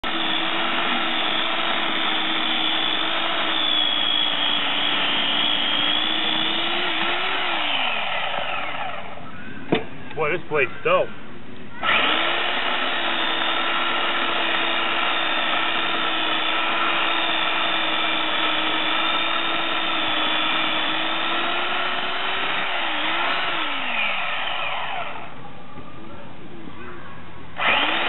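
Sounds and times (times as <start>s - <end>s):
electric chainsaw motor running: 0.0s - 9.2s, 11.8s - 25.4s, 27.6s - 28.0s.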